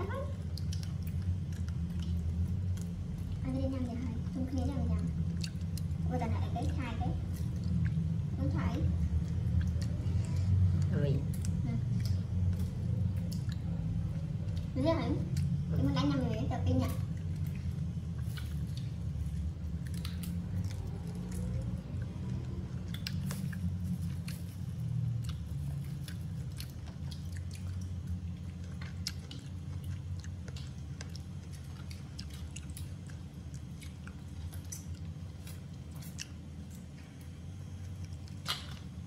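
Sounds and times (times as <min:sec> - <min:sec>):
monkeys chewing and biting meat: 0:00.0 - 0:39.0
steady low hum: 0:00.0 - 0:39.0.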